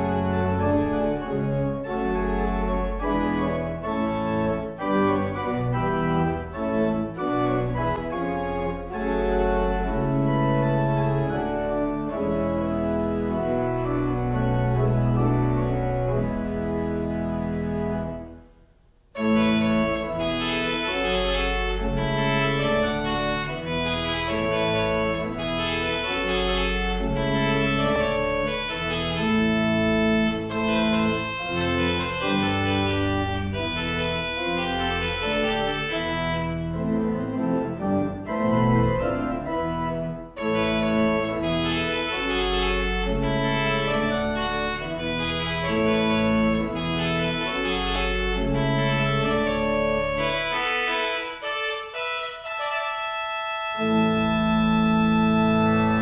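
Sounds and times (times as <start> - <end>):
church organ playing: 0.0 - 56.0.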